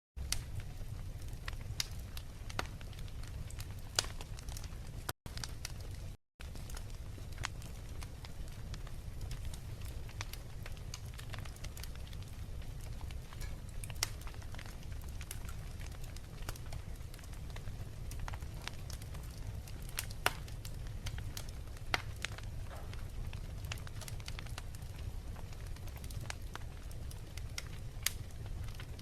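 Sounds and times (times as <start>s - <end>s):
wood fire crackling and popping: 0.2s - 29.0s.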